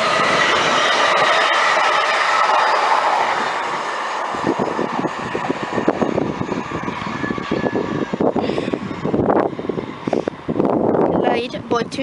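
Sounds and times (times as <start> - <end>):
train rail and wheel noise: 0.0 - 12.0
train steady whine: 0.0 - 12.0.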